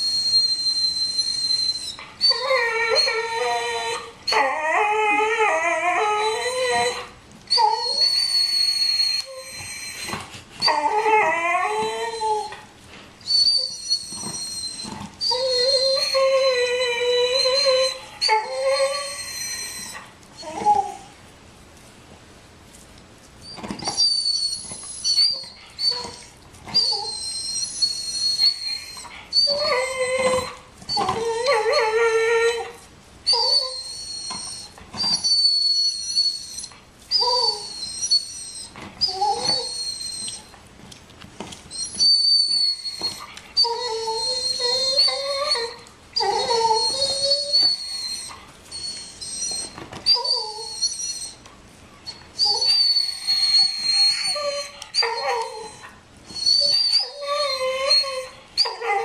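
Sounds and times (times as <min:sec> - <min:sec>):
dog howling: 0:00.0 - 0:12.6, 0:13.3 - 0:21.1, 0:23.8 - 0:40.5, 0:41.7 - 0:51.4, 0:52.4 - 0:59.0
dog whining: 0:00.0 - 0:21.2, 0:23.4 - 0:40.6, 0:41.5 - 0:59.0.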